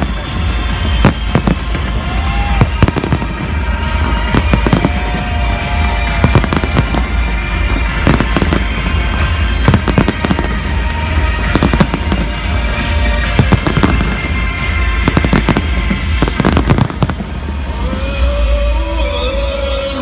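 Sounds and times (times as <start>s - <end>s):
fireworks bangs and crackles: 0.0s - 19.2s
music playing: 0.0s - 20.0s.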